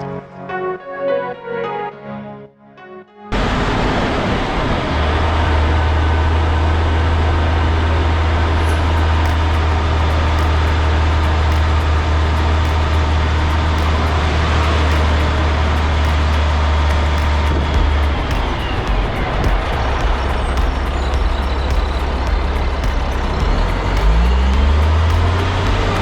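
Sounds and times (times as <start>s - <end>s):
road noise: 3.3s - 26.0s
diesel engine droning: 3.4s - 26.0s.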